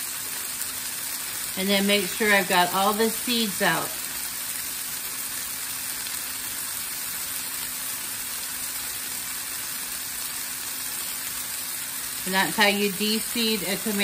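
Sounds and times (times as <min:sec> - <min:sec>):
vegetables sizzling on a griddle: 0:00.0 - 0:14.0.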